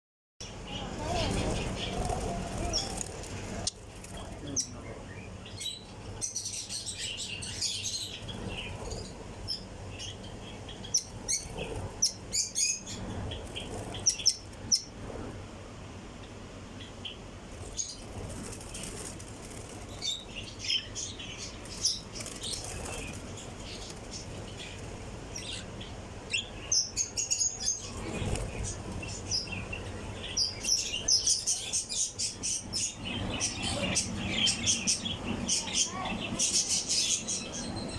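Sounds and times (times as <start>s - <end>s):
wings fluttering: 0.4s - 4.9s, 6.2s - 36.8s
birds chirping: 0.4s - 37.9s.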